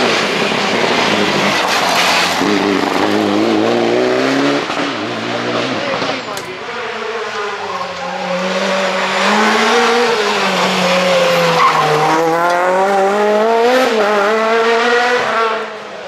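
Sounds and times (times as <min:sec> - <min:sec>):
rally car engine passing: 0:00.0 - 0:16.0.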